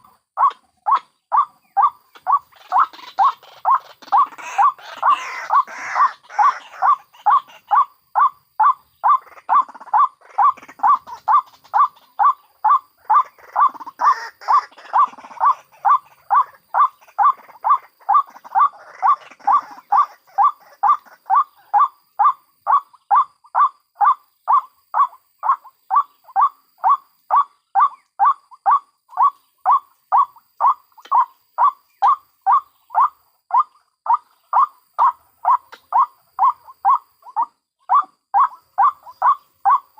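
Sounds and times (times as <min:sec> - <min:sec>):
soft rough bird calls: 0:00.0 - 0:39.9
waterhen calling: 0:00.0 - 0:39.9.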